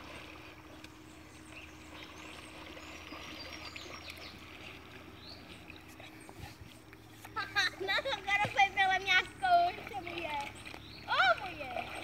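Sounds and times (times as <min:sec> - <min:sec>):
light water sounds: 0:00.0 - 0:12.0.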